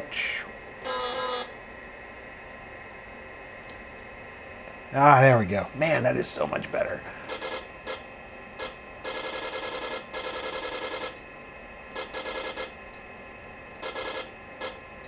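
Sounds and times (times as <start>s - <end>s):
faint computer hum: 0.0s - 15.0s.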